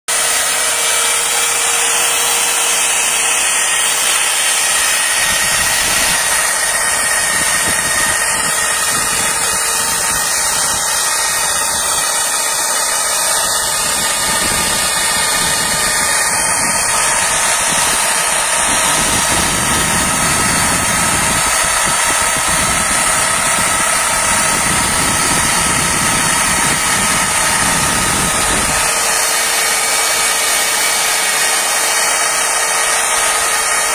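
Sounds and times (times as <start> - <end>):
extrusion welder hiss and whine: 0.1 - 33.9.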